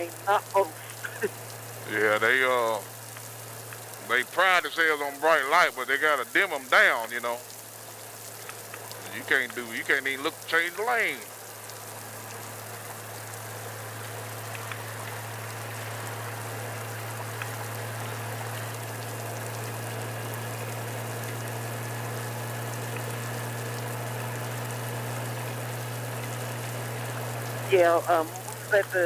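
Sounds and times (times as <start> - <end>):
hiss of rain and wind: 0.0 - 29.0
raindrop ticks: 0.0 - 29.0
steady low hum: 0.0 - 29.0.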